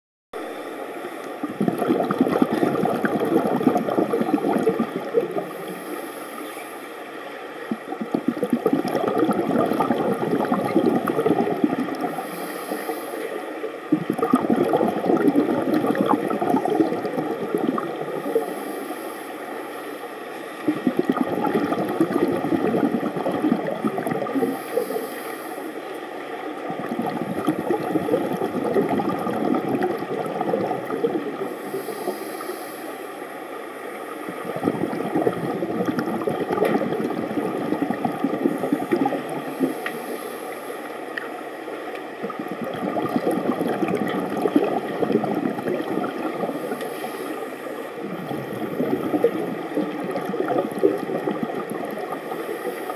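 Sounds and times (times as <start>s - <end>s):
underwater regulator bubbles gurgling: 0.4s - 6.7s, 7.5s - 19.0s, 20.3s - 32.8s, 33.7s - 52.9s.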